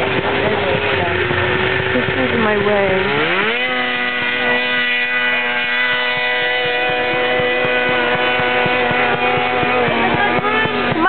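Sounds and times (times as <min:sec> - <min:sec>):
snowmobile engine at high revs: 0:00.0 - 0:11.0.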